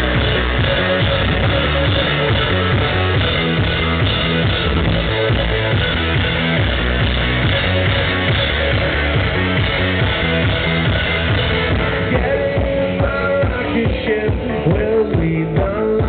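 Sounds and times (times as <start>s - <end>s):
driving drum beat: 0.0s - 16.0s
live electro-rock band: 0.0s - 16.0s.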